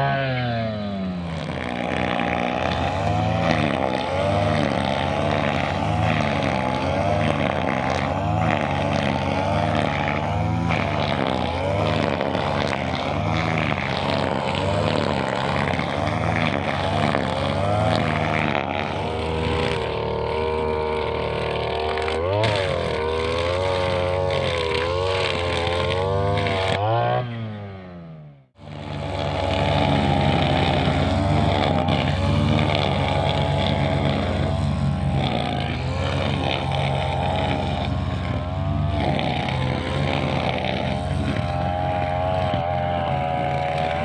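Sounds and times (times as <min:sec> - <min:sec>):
brushcutter engine running: 0:00.0 - 0:44.0.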